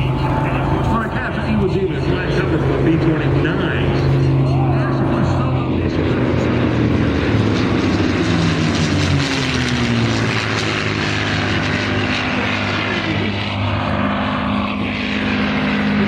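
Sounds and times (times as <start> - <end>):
propeller planes droning overhead: 0.0 - 16.0.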